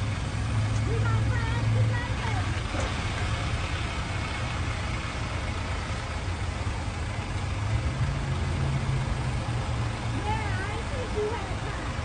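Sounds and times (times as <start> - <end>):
car engine idling: 0.0 - 12.0
outdoor noise: 0.0 - 12.0.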